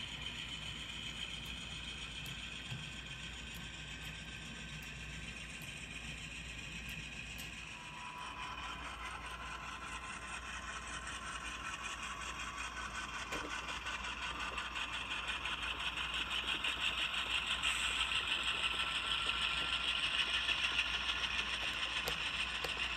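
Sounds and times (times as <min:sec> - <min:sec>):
model train motor whir: 0:00.0 - 0:22.9
wheels clicking on track: 0:00.0 - 0:22.9.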